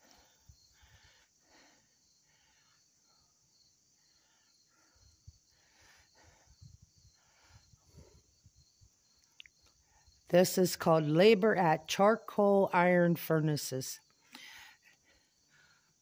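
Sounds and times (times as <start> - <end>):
insects chirping: 0.0 - 12.8, 13.6 - 16.0.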